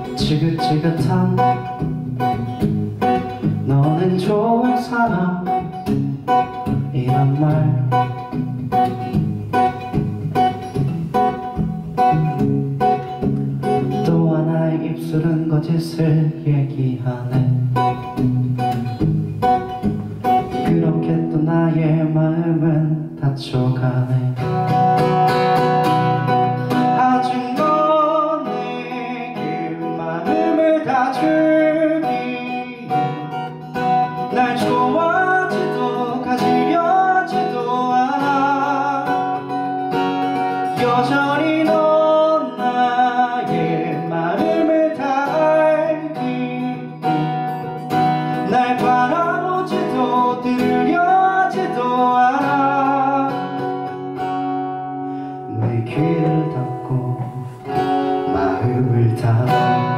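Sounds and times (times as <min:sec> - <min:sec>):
man singing: 0:00.0 - 0:01.9, 0:03.2 - 0:08.4, 0:13.6 - 0:18.9, 0:20.4 - 0:25.0, 0:26.6 - 0:54.0, 0:55.4 - 0:59.9
acoustic guitar strummed and picked: 0:00.0 - 0:59.9.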